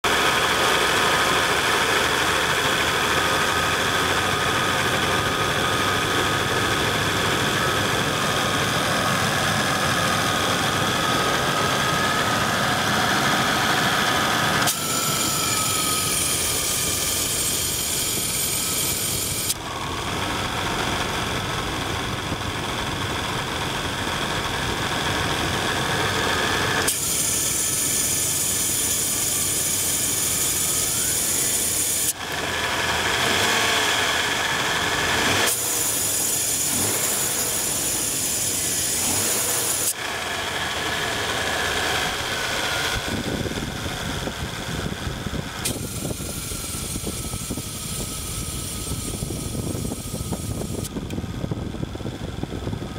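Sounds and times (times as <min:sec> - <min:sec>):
ac compressor running: 0:00.0 - 0:52.9
car engine running: 0:00.0 - 0:52.9.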